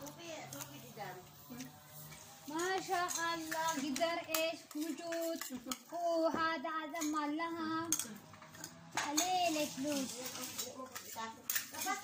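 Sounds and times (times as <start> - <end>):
spoons clinking on plates: 0.0 - 6.0, 6.8 - 12.0.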